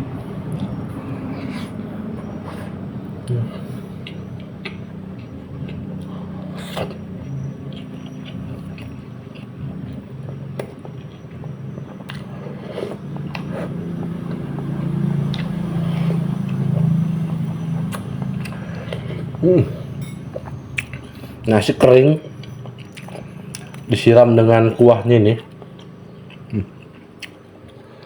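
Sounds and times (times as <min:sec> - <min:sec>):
person chewing and smacking lips: 0:00.3 - 0:24.1, 0:25.4 - 0:28.0.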